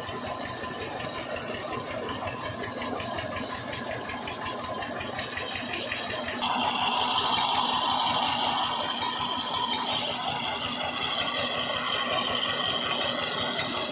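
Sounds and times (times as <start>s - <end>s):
diesel tractor engine running: 0.0s - 13.9s.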